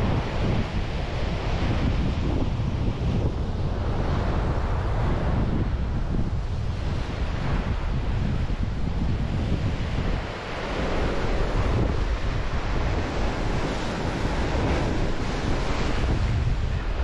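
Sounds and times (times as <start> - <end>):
sea waves rushing: 0.0 - 17.0
wind buffeting microphone: 0.0 - 17.0.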